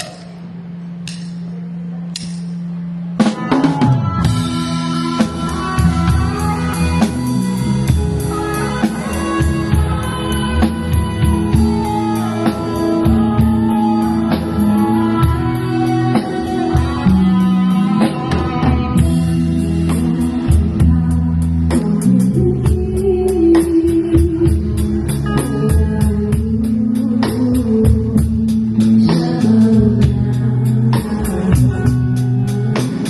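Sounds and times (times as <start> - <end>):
drum kit steady beat: 0.0 - 33.0
low bass notes: 0.0 - 33.0
electric guitar: 2.7 - 33.0.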